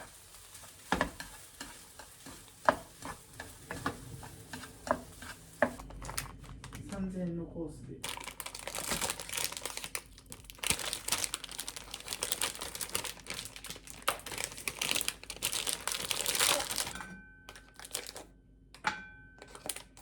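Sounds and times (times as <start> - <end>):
crinkling and rustling: 0.0 - 7.0, 8.0 - 18.3, 19.4 - 20.0.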